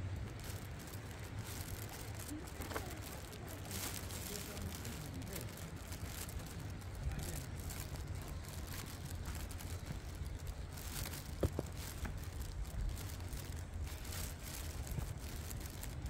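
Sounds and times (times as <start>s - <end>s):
footsteps crunching dry leaves: 0.0s - 16.0s
low microphone rumble: 0.0s - 16.0s.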